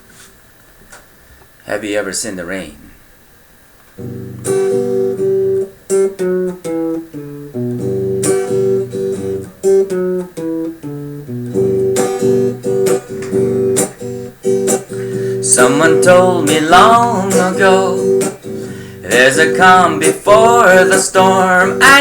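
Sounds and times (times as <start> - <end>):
acoustic guitar strumming chords: 4.0 - 22.0.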